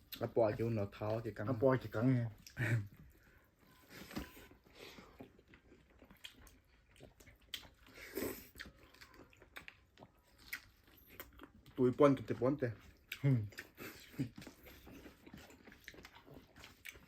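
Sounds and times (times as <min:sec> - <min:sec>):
chewing and biting: 0:00.0 - 0:17.0.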